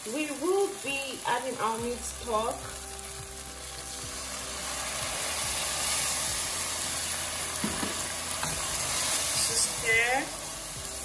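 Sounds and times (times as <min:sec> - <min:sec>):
stock sizzling in a hot pot: 0:00.0 - 0:11.0.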